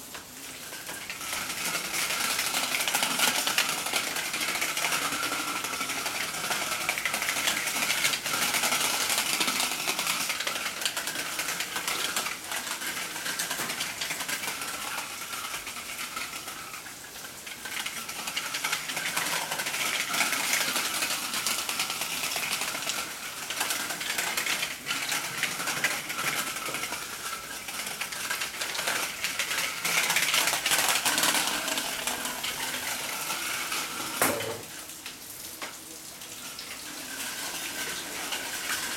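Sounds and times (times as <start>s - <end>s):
bicycle rattling over brick paving: 0.0s - 34.8s, 36.7s - 38.9s.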